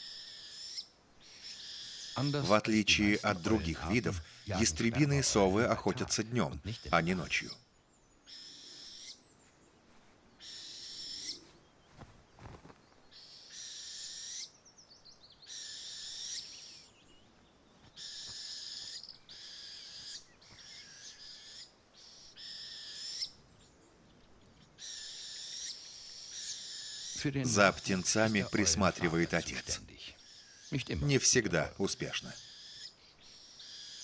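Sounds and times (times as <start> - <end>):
owl fledglings raspy begging calls: 0.0 - 7.6, 8.2 - 9.2, 10.4 - 11.5, 13.1 - 17.0, 17.9 - 23.4, 24.6 - 34.0.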